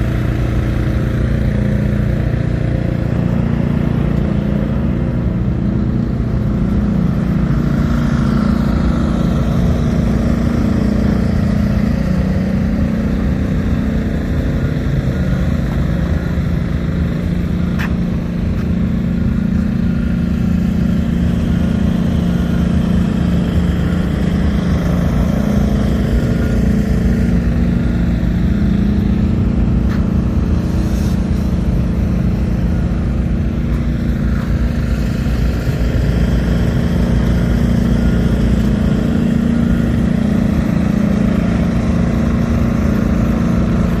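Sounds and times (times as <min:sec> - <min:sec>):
diesel generator engine running: 0:00.0 - 0:44.0.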